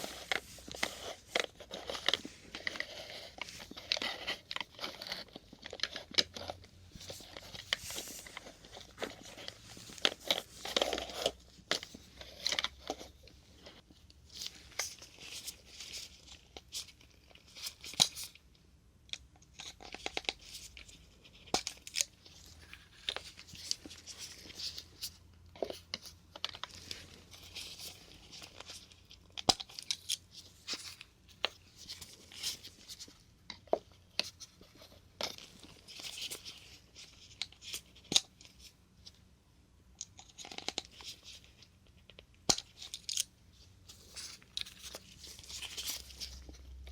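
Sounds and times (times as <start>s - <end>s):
crinkly plastic rustling: 0.0s - 18.4s, 19.5s - 39.2s, 40.0s - 46.9s.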